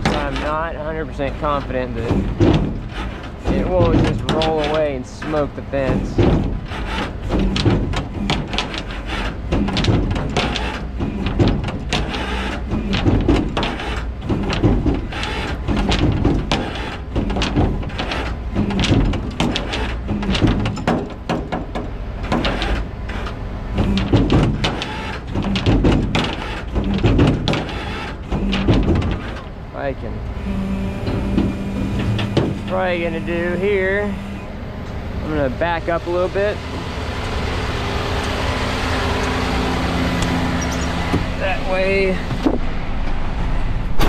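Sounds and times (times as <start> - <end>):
metallic clanks and knocks: 0.0 - 43.2
hydraulics and winch working: 0.0 - 44.0
tow truck engine hum: 0.0 - 44.0.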